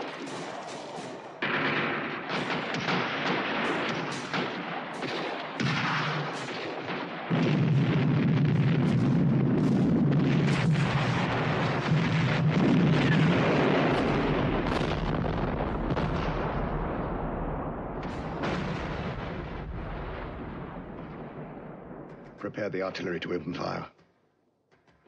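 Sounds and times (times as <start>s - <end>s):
rifle shots: 0.0s - 22.2s
big explosion rumbling: 1.2s - 22.5s.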